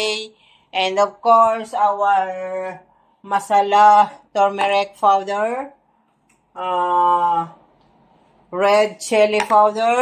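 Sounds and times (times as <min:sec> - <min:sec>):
woman speaking: 0:00.0 - 0:05.8, 0:06.5 - 0:07.7, 0:08.5 - 0:10.0.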